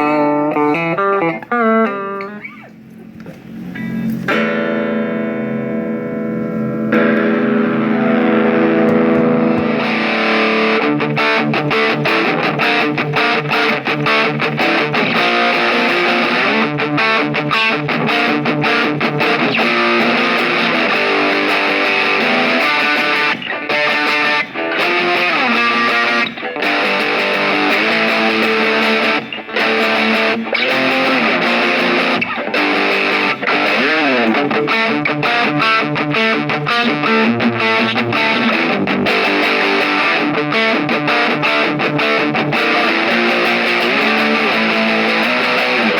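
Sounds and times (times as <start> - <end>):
distorted electric guitar strumming: 0.0 - 45.9.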